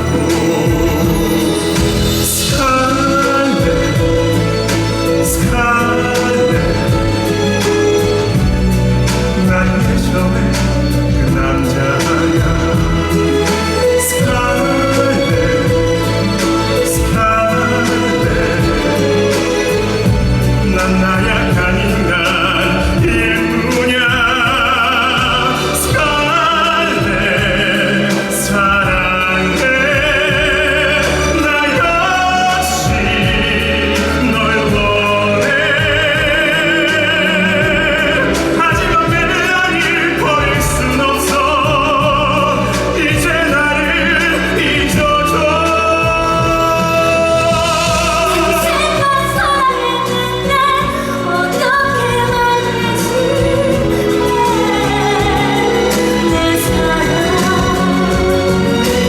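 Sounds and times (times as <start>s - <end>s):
orchestral accompaniment: 0.0s - 59.0s
person singing with vibrato: 0.0s - 59.0s.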